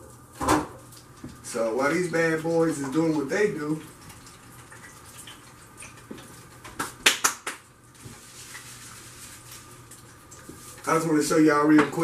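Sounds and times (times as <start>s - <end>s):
faint kitchen background: 0.0s - 12.0s.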